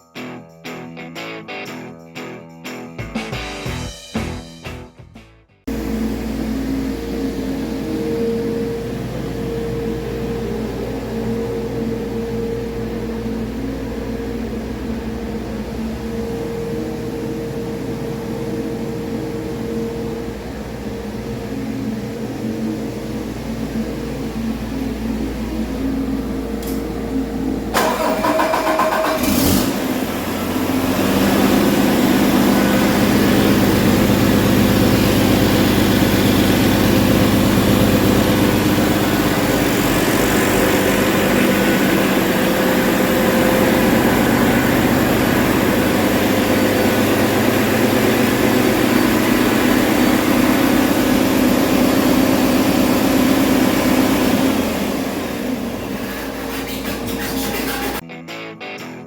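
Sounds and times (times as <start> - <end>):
diesel engine cranking and starting: 5.7 - 58.0
diesel engine idling: 5.7 - 58.0.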